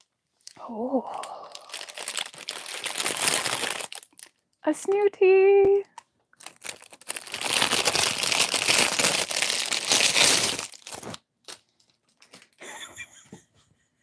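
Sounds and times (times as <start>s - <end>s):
plastic wrapping crinkling: 0.0s - 0.6s, 1.2s - 5.0s, 5.6s - 12.6s.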